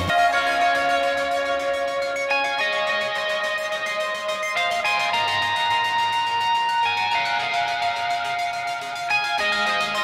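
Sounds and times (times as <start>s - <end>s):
song with held notes: 0.0s - 10.0s.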